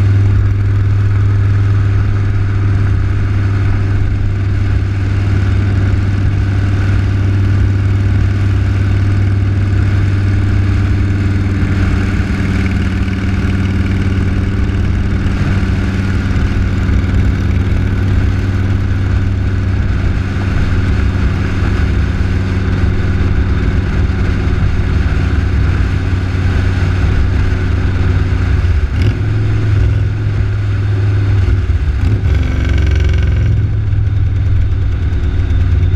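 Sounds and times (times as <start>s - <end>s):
vehicle engine running: 0.0s - 35.9s
wind and road noise: 0.0s - 35.9s.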